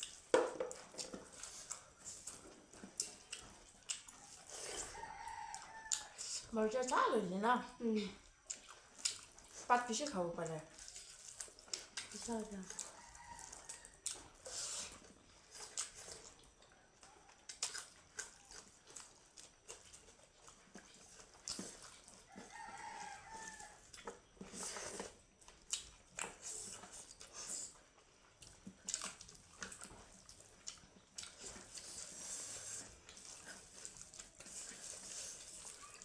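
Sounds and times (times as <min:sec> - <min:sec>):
chewing and mouth smacks: 0:00.0 - 0:07.0, 0:08.2 - 0:36.0.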